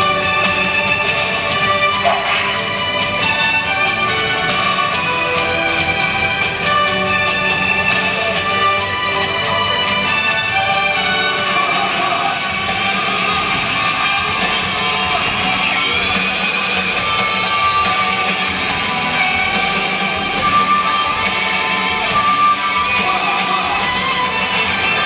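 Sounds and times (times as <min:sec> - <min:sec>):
loud music over sound system: 0:00.0 - 0:25.0.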